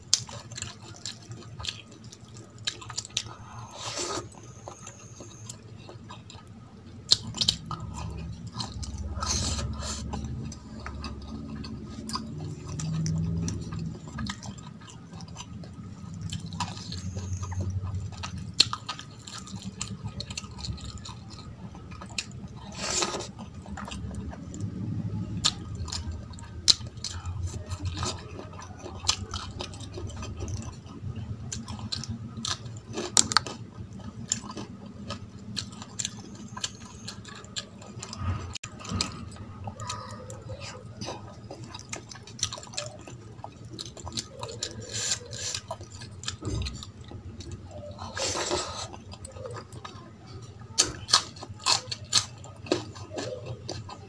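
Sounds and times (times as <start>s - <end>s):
close-up chewing: 0.0s - 54.0s.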